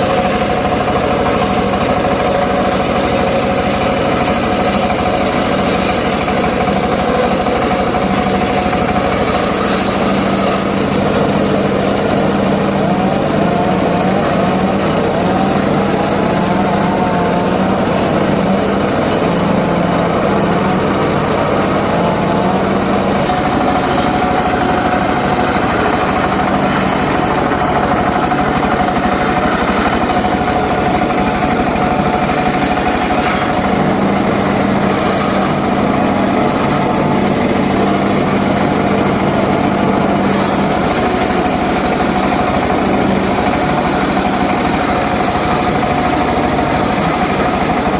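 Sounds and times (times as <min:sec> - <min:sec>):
saw engine cutting wood: 0:00.0 - 0:47.9.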